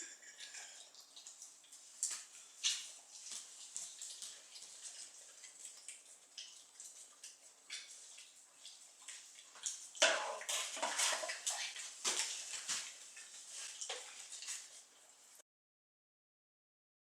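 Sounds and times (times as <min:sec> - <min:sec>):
animal crunching food from a plate: 0:00.4 - 0:14.9.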